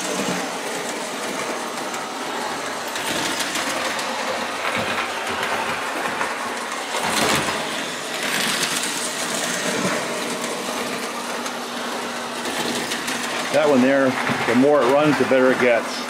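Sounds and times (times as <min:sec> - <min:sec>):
toy train motor whirring: 0:00.0 - 0:11.6, 0:12.3 - 0:15.6.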